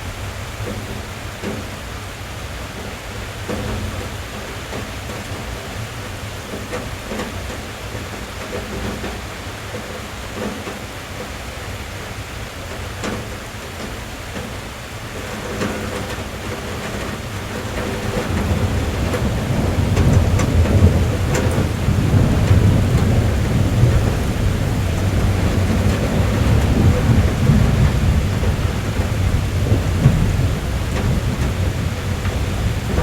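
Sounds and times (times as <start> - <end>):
rain on car roof: 0.0 - 33.0.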